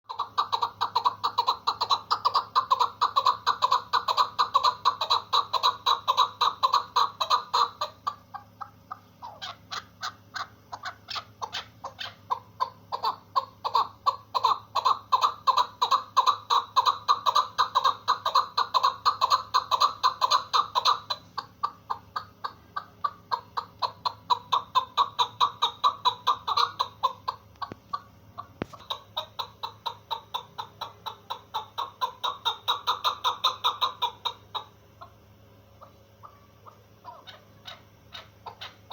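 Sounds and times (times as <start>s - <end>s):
partridge clucking: 0.1s - 35.2s.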